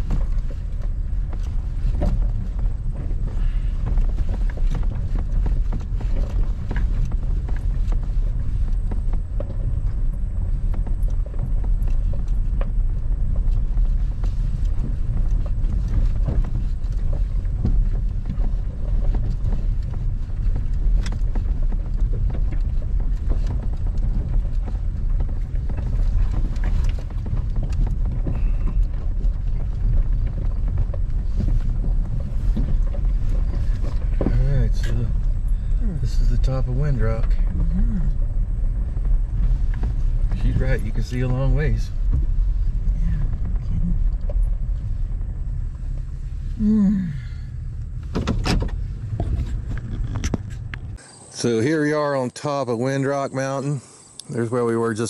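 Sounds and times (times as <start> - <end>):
knocks and clatters: 0.0 - 46.6, 47.2 - 51.0
pickup engine driving slowly: 0.0 - 55.0.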